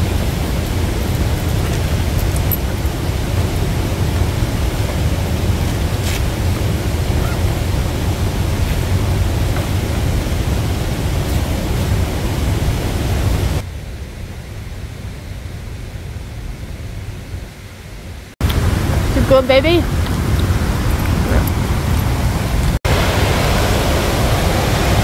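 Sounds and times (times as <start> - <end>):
waterfall and river rapids rushing: 0.0 - 25.0.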